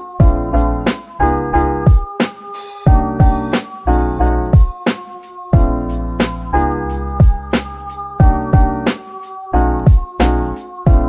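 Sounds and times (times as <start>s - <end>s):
electronic beat with kick drums: 0.0s - 11.0s
synth chords: 0.0s - 11.0s.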